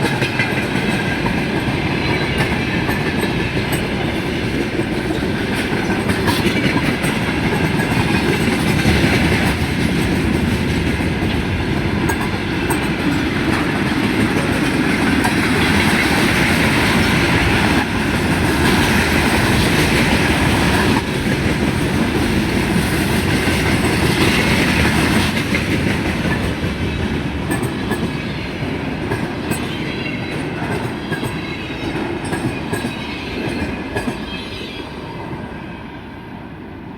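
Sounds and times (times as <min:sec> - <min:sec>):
train wagons rumbling past: 0:00.0 - 0:36.9.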